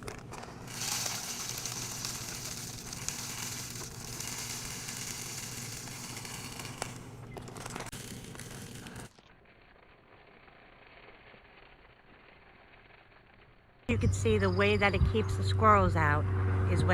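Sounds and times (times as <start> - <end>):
birdseed pouring through a funnel: 0.0 - 13.8.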